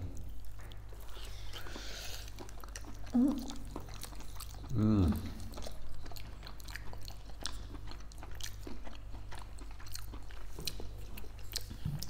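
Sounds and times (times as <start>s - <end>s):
people chewing: 0.0s - 12.0s
steady low hum: 0.0s - 12.0s.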